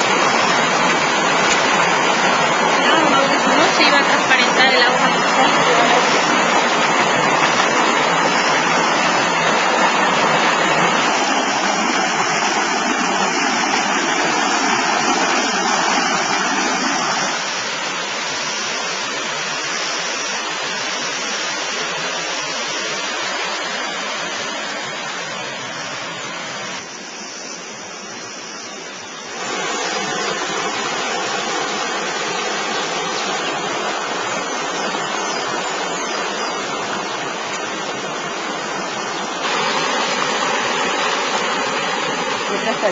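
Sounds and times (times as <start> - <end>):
flowing water rushing: 0.0 - 42.9.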